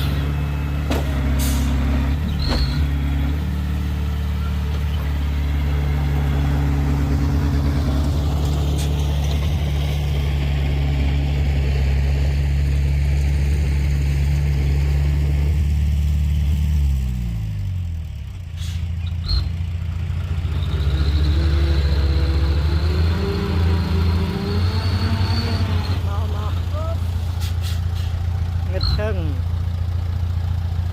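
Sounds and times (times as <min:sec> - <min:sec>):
vehicle engine droning: 0:00.0 - 0:30.9.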